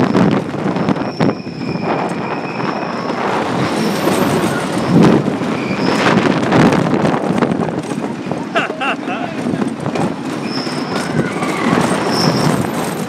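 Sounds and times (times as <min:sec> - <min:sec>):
roller coaster rattling on track: 0:00.0 - 0:13.0.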